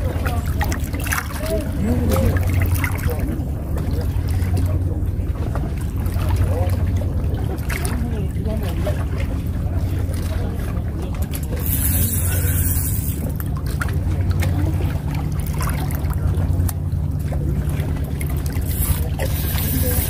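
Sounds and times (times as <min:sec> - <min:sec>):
faint voices: 0:00.0 - 0:20.0
low engine drone: 0:00.0 - 0:20.0.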